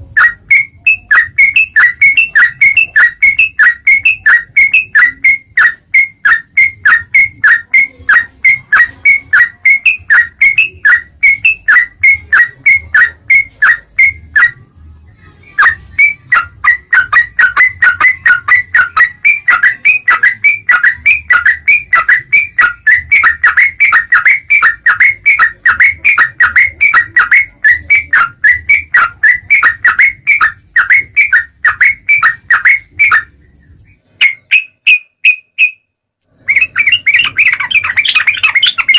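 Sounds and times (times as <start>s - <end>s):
bird whistled calls: 0.2s - 14.6s, 15.6s - 33.3s, 34.2s - 35.8s, 36.4s - 38.9s.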